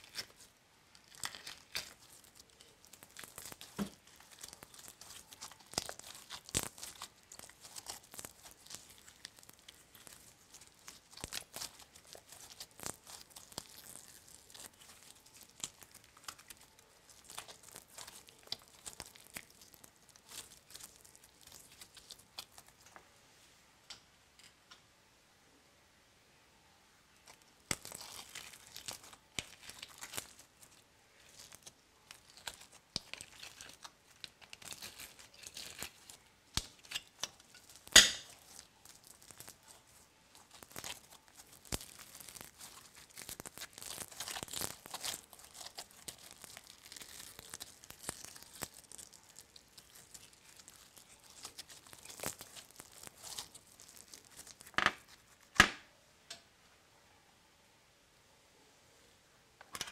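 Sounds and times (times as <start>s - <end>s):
sharp slime crack: 0.0s - 22.8s, 27.3s - 55.9s
slime crackling and tearing: 0.0s - 22.9s, 27.2s - 55.6s.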